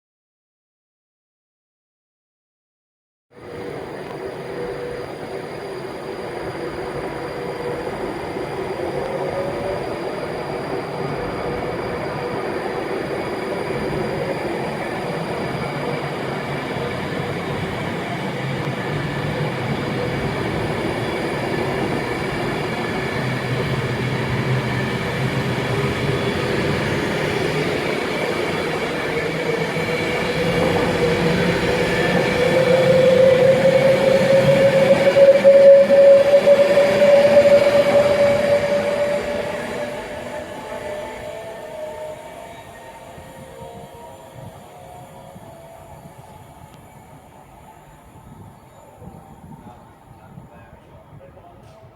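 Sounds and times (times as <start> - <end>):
train rumbling on tracks: 3.4 - 51.9.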